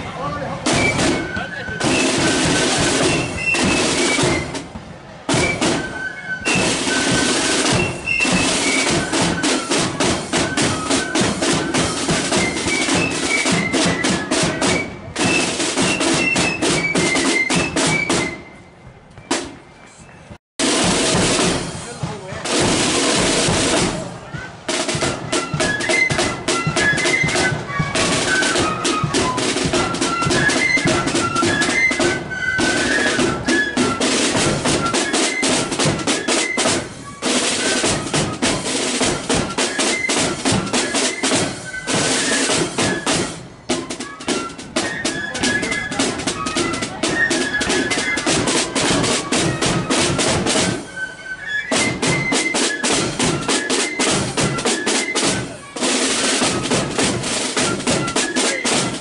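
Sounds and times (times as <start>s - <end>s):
flutes playing a melody: 0.0s - 59.0s
snare drum rolls: 0.2s - 18.6s, 19.2s - 19.6s, 20.6s - 59.0s.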